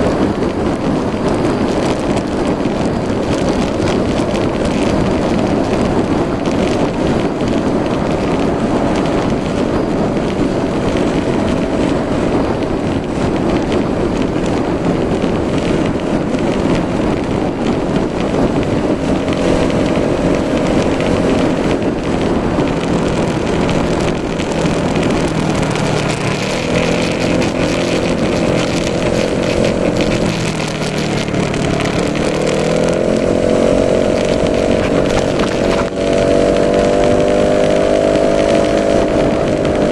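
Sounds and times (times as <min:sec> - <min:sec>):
scooter engine running: 0:00.0 - 0:39.9
wind noise: 0:00.0 - 0:39.9.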